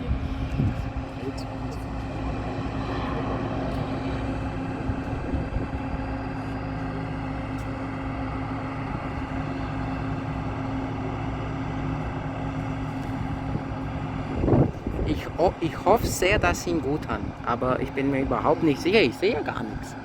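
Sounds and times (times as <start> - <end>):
jet airliner engine drone: 0.0 - 20.0.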